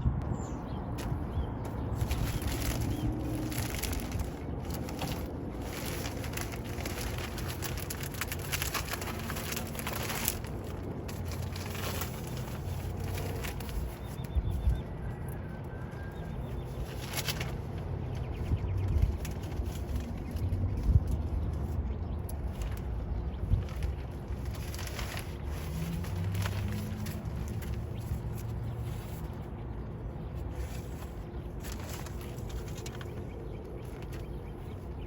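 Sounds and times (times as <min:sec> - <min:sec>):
rustling and handling noises: 0:00.9 - 0:35.0.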